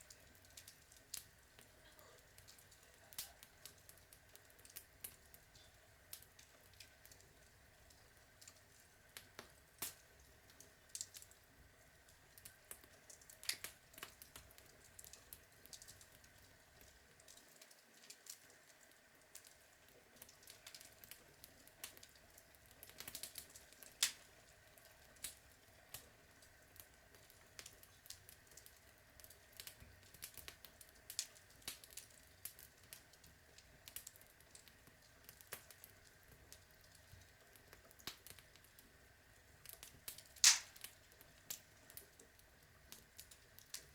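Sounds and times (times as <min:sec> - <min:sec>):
log fire crackling: 0:00.0 - 0:43.9.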